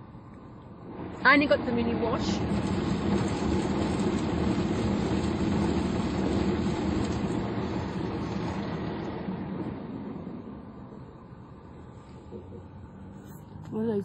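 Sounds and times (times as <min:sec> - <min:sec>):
car wash water spray and machinery: 0:00.0 - 0:14.0.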